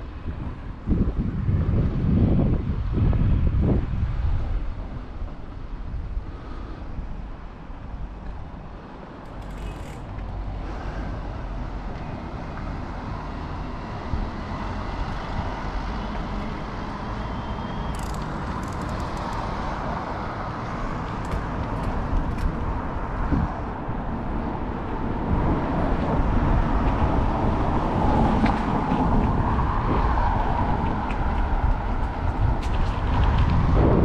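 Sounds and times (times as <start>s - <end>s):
road traffic: 0.0s - 34.0s
wind rumbling on microphone: 0.0s - 34.0s.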